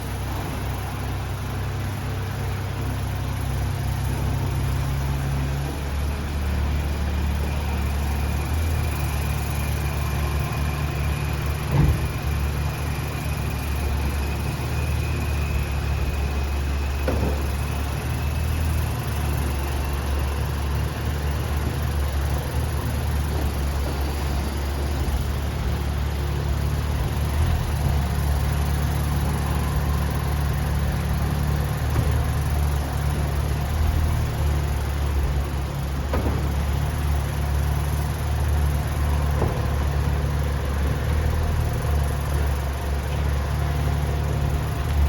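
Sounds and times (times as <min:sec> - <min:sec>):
car engine humming: 0:00.0 - 0:45.0.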